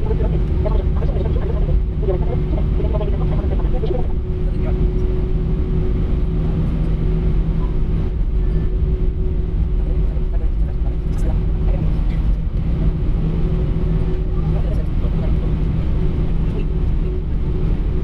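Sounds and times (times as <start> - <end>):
aircraft cabin rumble and hum: 0.0 - 18.0
faint passenger voices: 0.0 - 18.0.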